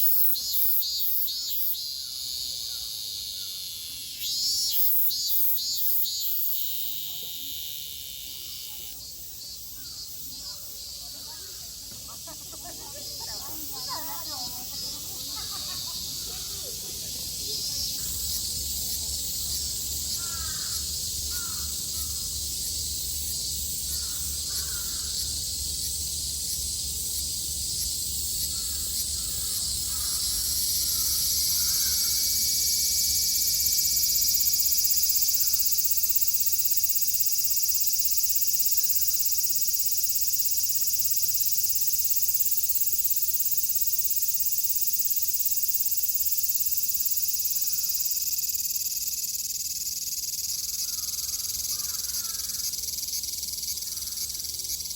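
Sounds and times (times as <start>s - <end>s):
cicadas droning: 0.0s - 54.9s.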